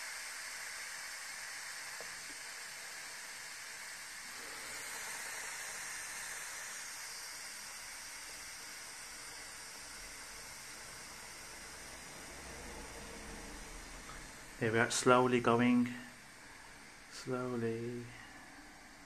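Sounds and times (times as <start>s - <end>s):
steam hissing from pressure cooker: 0.0s - 19.0s.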